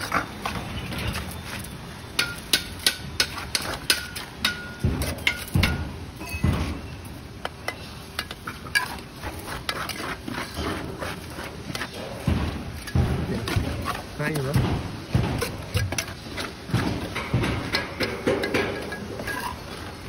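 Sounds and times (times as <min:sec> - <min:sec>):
trowel tapping bricks: 0:02.1 - 0:06.7, 0:07.4 - 0:20.0.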